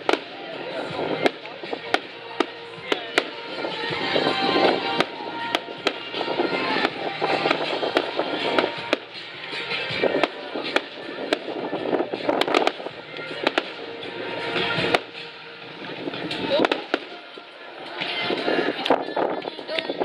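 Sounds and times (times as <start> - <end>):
fireworks bangs: 0.0 - 20.0
fireworks crackling: 0.0 - 20.0
music playing: 0.0 - 20.0.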